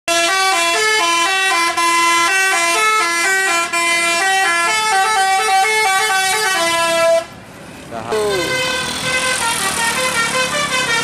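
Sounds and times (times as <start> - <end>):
bus horn playing melody: 0.1 - 7.4, 8.2 - 11.0.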